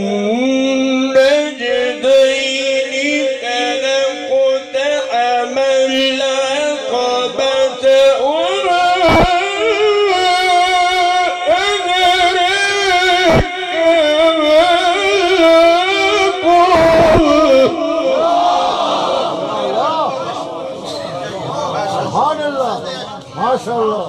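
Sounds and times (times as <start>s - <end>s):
man chanting through loudspeaker: 0.0s - 22.8s.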